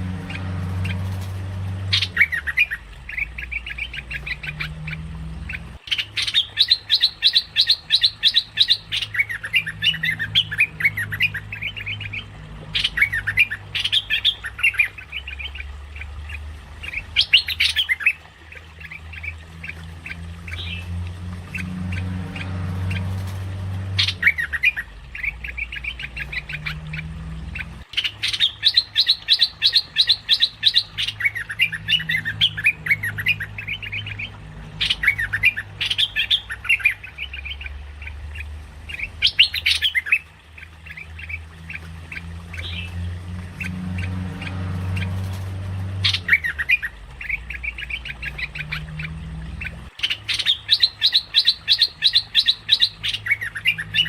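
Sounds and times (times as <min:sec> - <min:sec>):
low hum: 0:00.0 - 0:29.0, 0:29.6 - 0:50.7
bulbul chattering calls: 0:01.9 - 0:20.8, 0:24.0 - 0:43.0, 0:46.0 - 0:54.0.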